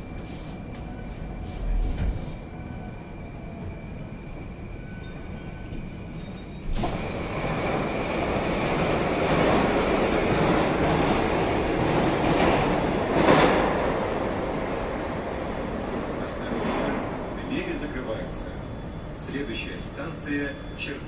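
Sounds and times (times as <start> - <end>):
train doors opening: 0.0 - 3.8, 4.6 - 21.0
train rumbling along track: 0.0 - 21.0.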